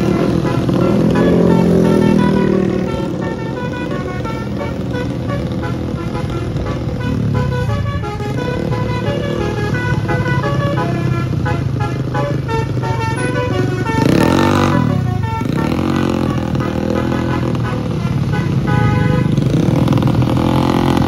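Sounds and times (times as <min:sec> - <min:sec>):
bus musical horn melody: 0:00.0 - 0:21.0
motorcycle and bus engines: 0:00.0 - 0:21.0.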